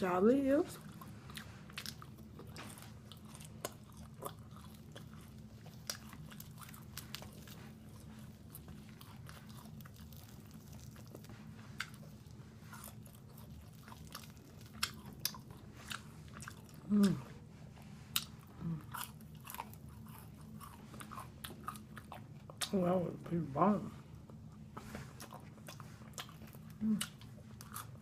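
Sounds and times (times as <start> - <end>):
steady low hum: 0.0 - 28.0
person chewing crispy food: 0.7 - 22.8, 24.1 - 28.0.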